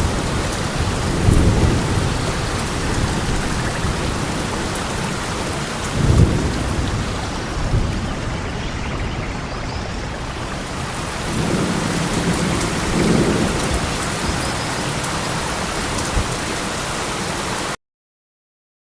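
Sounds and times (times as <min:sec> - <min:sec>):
steady rain: 0:00.0 - 0:09.2, 0:09.8 - 0:17.8
thunder rolling: 0:00.0 - 0:16.8.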